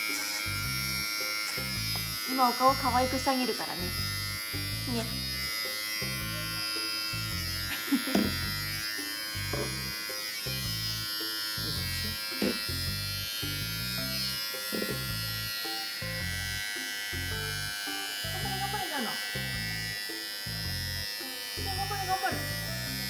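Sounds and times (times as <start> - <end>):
electric hair clipper whine: 0.0 - 23.0.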